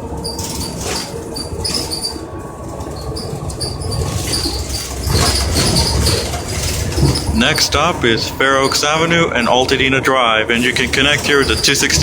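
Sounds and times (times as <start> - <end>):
bus engine and road rumble: 0.0 - 12.0
squeaks and rattles of bus body: 0.0 - 12.0.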